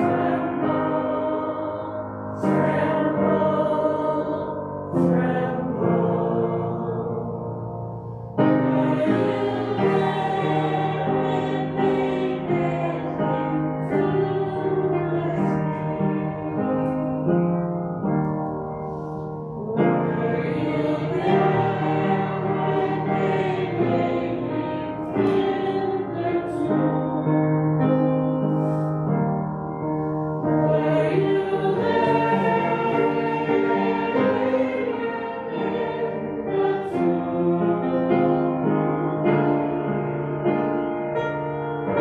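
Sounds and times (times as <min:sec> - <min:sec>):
slow church music chords: 0:00.0 - 0:42.0.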